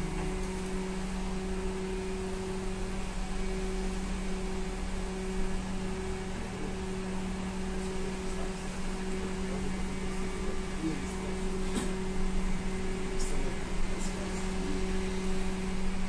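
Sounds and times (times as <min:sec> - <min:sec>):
trolleybus electrical hum: 0:00.0 - 0:16.0.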